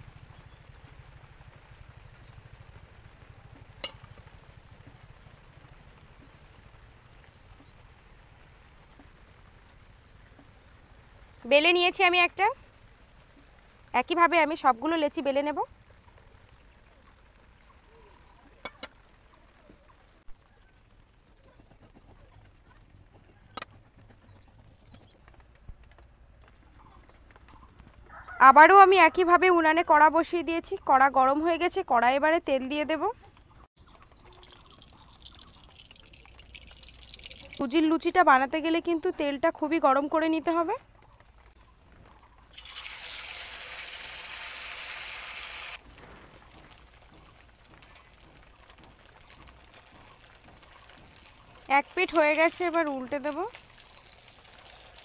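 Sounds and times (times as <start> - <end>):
dough deep-frying in hot oil: 0.0 - 23.7, 33.7 - 55.0.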